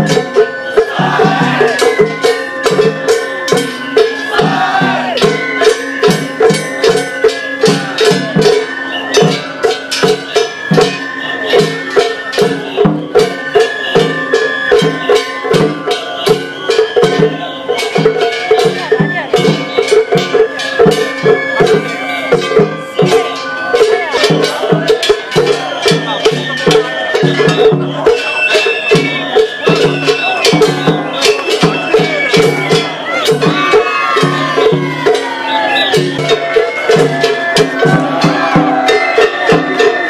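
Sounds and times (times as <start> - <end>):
taiko drums beating: 0.0 - 40.0.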